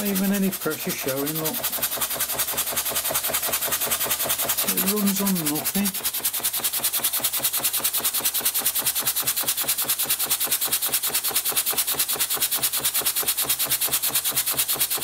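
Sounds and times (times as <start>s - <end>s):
model steam engine chuffing: 0.0s - 15.0s
steam hiss: 0.0s - 15.0s.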